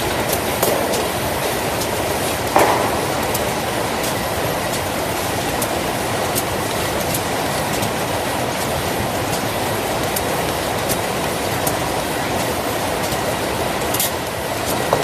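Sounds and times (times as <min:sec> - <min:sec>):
machine mechanical clatter: 0:00.0 - 0:15.0.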